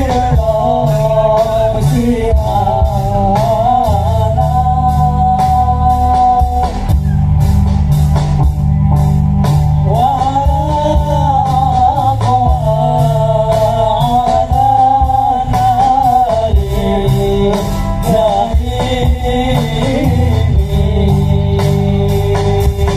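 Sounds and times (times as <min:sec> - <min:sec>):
person singing: 0:00.0 - 0:07.4, 0:09.8 - 0:22.9
live band music over pa: 0:00.0 - 0:22.9.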